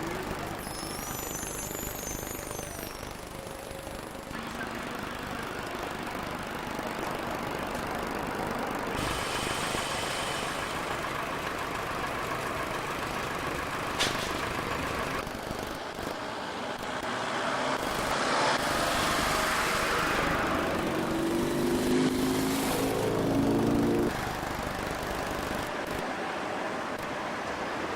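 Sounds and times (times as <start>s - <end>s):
diesel engines droning: 0.0s - 27.9s.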